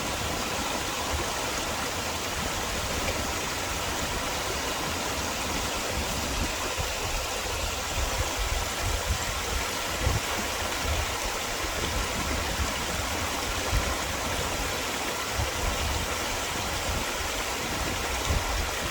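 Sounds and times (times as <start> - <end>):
stream flowing over rocks: 0.0 - 18.9.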